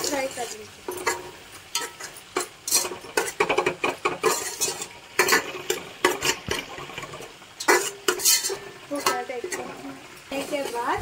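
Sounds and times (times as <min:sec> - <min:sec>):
food frying: 0:00.0 - 0:11.0
metal spoon scraping a pot: 0:00.0 - 0:11.0.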